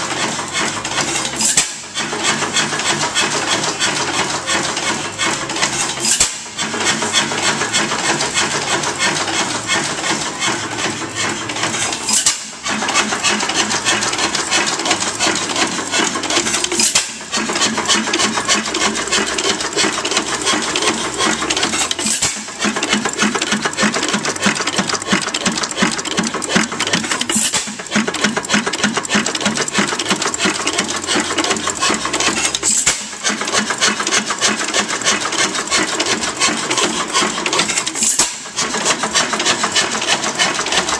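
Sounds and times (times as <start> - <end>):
engine mechanical clatter: 0.0 - 40.9.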